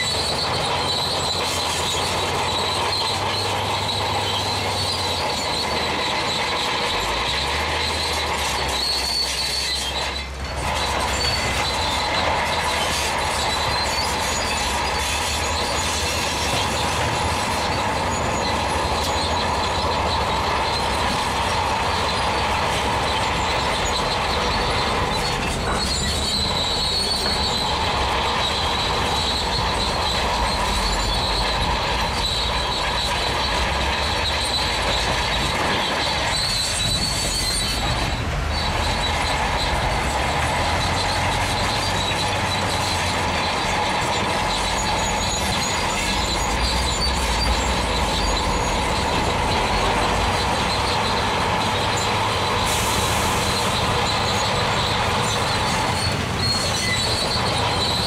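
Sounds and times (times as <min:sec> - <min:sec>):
bulldozer tracks squealing and clanking: 0:00.0 - 0:58.0
diesel engine rumble: 0:00.0 - 0:58.0.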